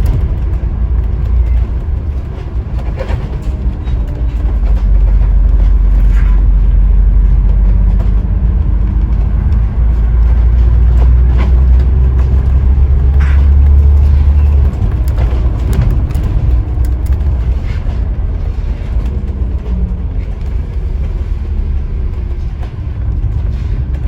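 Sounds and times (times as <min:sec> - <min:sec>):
bus diesel engine droning: 0:00.0 - 0:24.0
road noise: 0:00.0 - 0:24.0.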